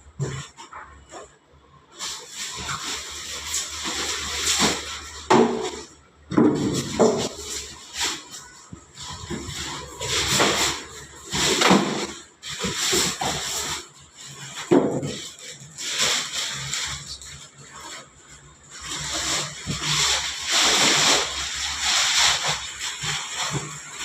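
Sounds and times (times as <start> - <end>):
packaging rustling and scraping: 0.0 - 24.0.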